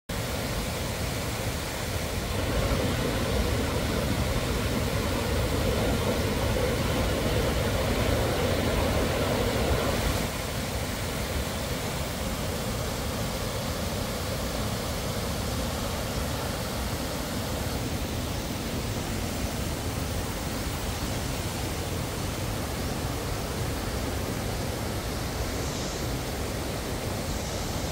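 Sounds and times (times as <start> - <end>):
waterfall rushing over rocks: 0.1 - 27.9.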